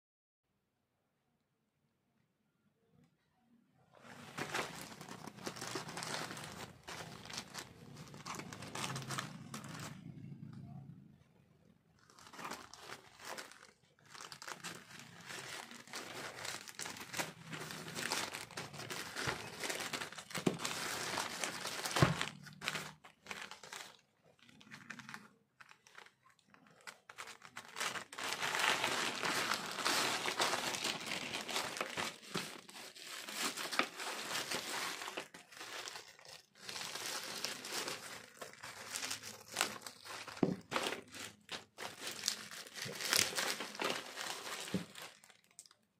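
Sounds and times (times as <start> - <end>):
bubble wrap rustling: 4.0 - 10.4, 12.0 - 45.9
plastic mailer crinkling: 4.0 - 10.5, 12.0 - 45.9.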